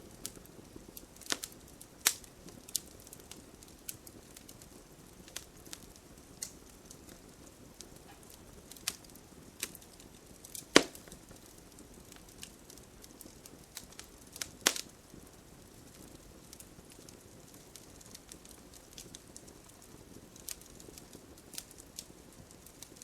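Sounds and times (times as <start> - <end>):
campfire crackling and popping: 0.0 - 23.0
hiss of burning: 0.0 - 23.0.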